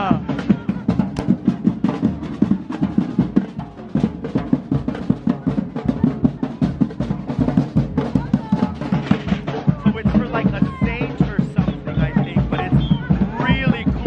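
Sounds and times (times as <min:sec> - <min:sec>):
drum band playing fast beat: 0:00.0 - 0:14.0.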